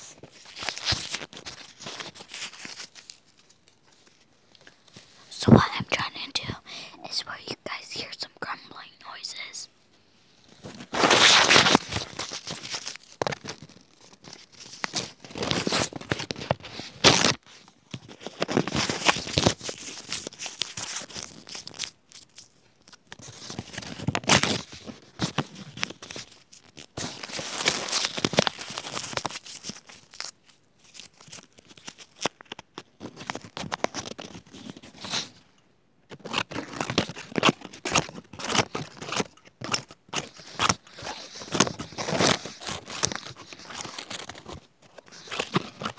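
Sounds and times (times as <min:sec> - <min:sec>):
crinkling and rustling handling: 0:00.0 - 0:07.9, 0:08.6 - 0:45.9.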